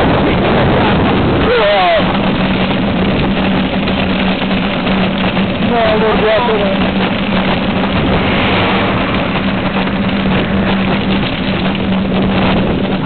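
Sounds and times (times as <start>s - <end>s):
wind rushing over microphone: 0.0s - 13.0s
steady low hum: 2.2s - 13.0s.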